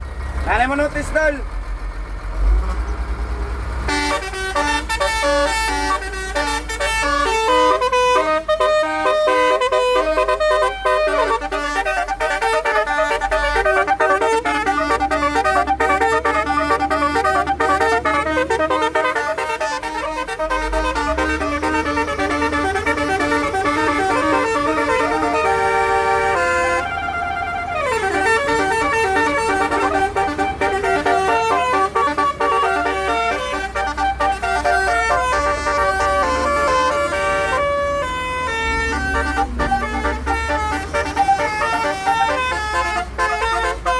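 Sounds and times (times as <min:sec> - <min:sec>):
low steady rumble: 0:00.0 - 0:43.9
musical air horn playing a tune: 0:03.9 - 0:43.9.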